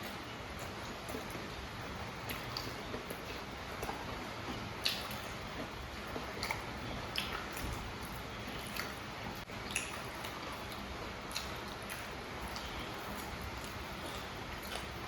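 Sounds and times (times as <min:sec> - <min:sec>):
steady background hiss: 0:00.0 - 0:15.0
wet chewing mouth sounds: 0:00.0 - 0:15.0.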